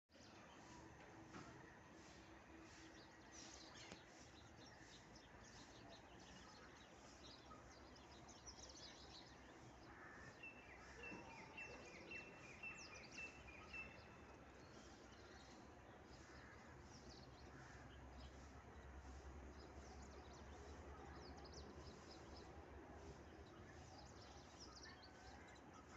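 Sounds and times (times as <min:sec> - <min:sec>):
bird calls and chirps: 0:00.1 - 0:25.9.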